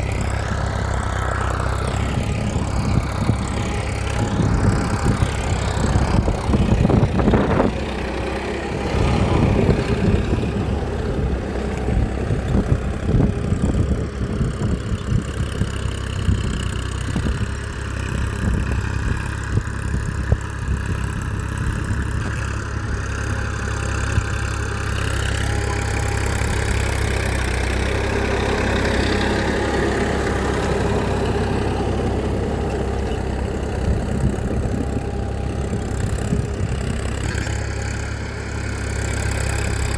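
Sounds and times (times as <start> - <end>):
small dumper engine running: 0.0 - 39.9.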